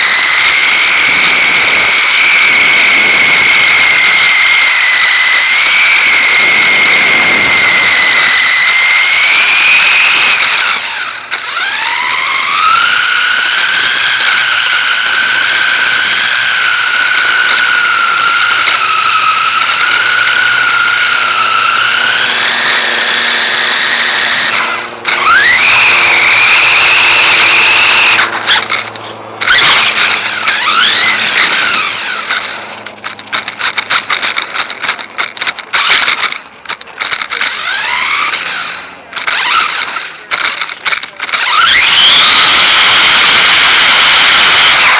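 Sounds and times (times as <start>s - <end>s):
electric motor whining: 0.0s - 44.9s
toy car rattling over ground: 0.0s - 44.9s.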